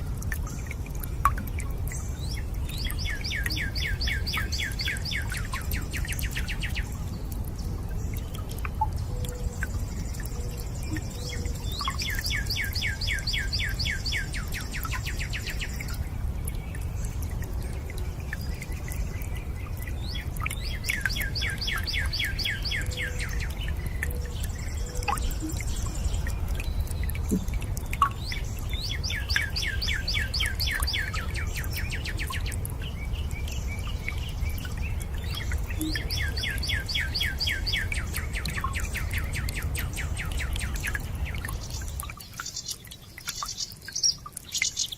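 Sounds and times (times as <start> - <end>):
rushing water: 0.0 - 44.9
water drips: 0.0 - 44.9.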